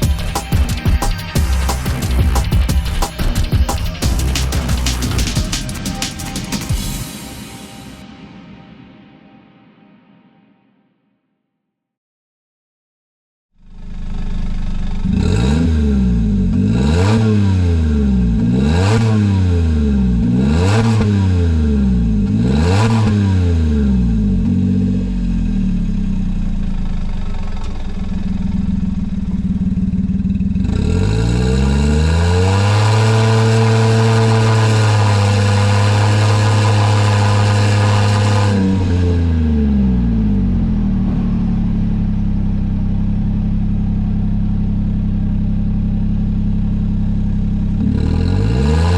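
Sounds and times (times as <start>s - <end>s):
truck engine revving and idling: 0.0s - 6.8s, 13.7s - 48.9s.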